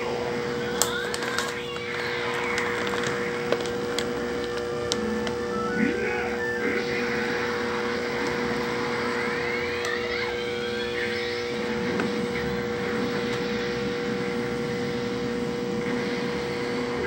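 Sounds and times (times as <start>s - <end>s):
aquarium pump humming: 0.0s - 17.0s.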